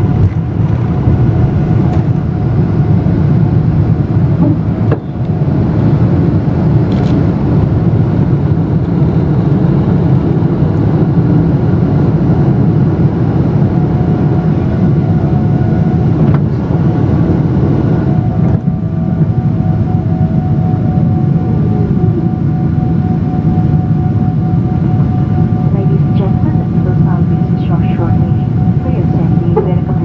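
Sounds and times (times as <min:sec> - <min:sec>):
jet engines roaring at takeoff: 0:00.0 - 0:30.0.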